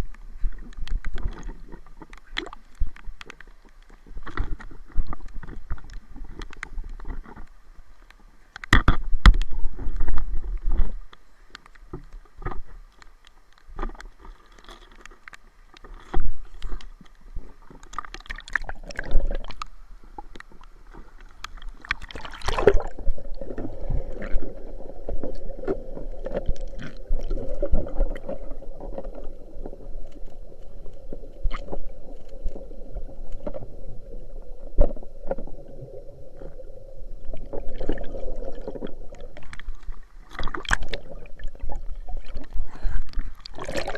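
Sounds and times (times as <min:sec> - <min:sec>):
water sloshing and gurgling: 0:00.0 - 0:43.9.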